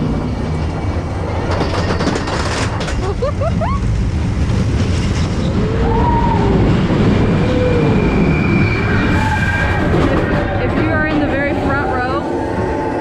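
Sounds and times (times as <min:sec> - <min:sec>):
roller coaster rumbling on track: 0:00.0 - 0:13.0
rushing wind: 0:00.0 - 0:13.0.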